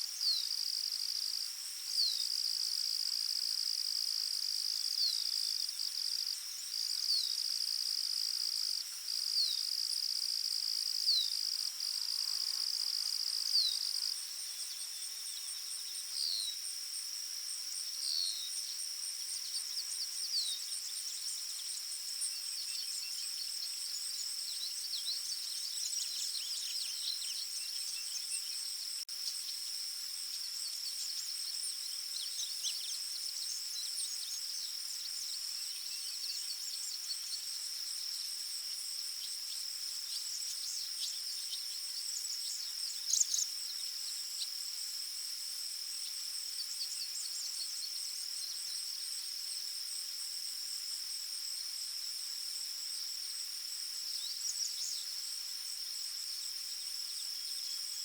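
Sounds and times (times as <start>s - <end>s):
high-pitched insect drone: 0.1s - 58.0s.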